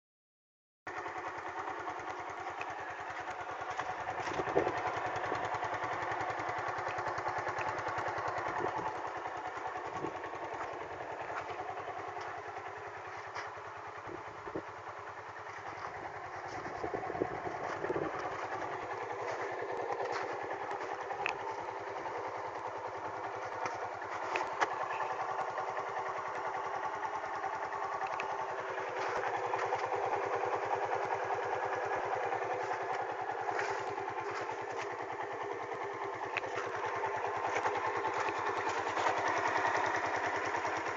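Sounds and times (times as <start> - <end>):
motorcycle engine running: 0.9 - 40.9.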